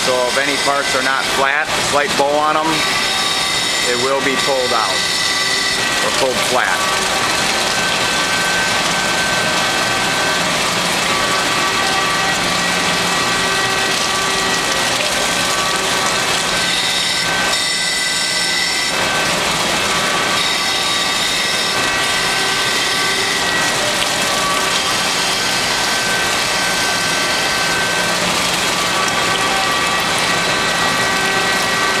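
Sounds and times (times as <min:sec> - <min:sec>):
surface grinder grinding steel: 0:00.0 - 0:32.0.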